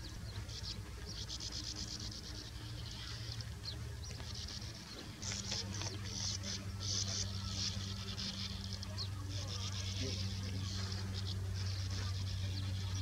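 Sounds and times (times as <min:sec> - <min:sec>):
birds twittering trills: 0:00.0 - 0:13.0
low steady hum: 0:00.0 - 0:13.0.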